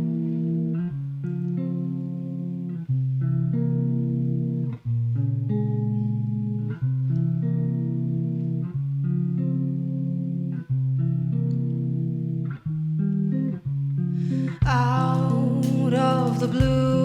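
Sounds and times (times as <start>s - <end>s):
guitar and bass chords: 0.0s - 17.0s.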